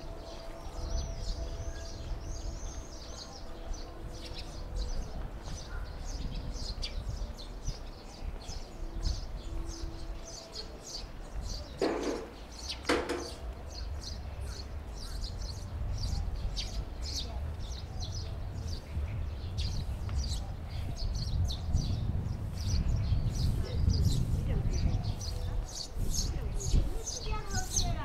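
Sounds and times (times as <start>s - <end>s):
small birds chirping: 0.1s - 28.0s.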